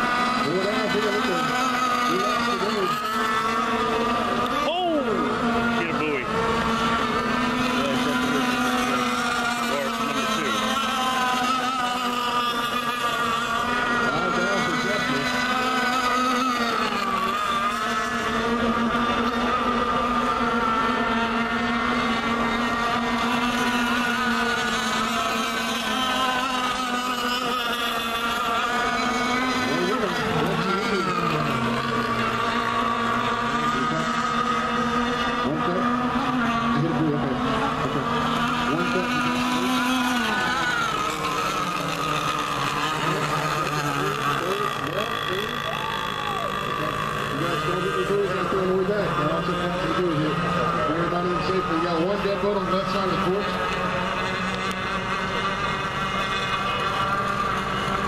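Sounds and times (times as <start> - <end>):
racing boat motors buzzing: 0.0 - 58.0.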